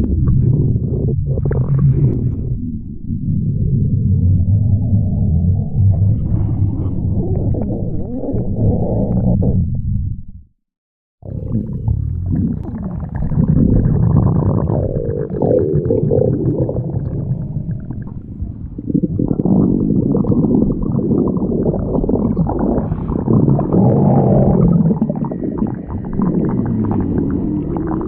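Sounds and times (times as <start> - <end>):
stomach growling: 0.0 - 10.0, 11.2 - 28.0.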